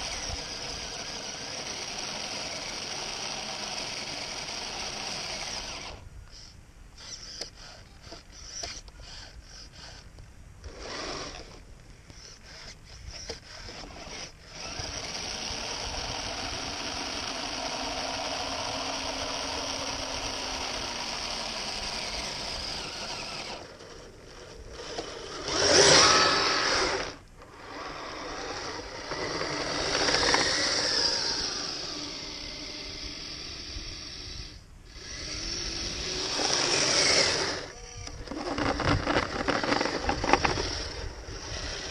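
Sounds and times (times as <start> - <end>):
toy motor and drivetrain whirring: 0.0 - 41.9.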